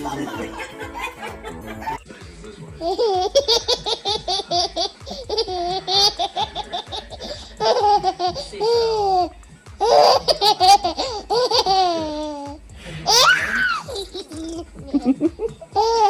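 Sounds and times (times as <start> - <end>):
baby laughing: 2.8 - 16.0.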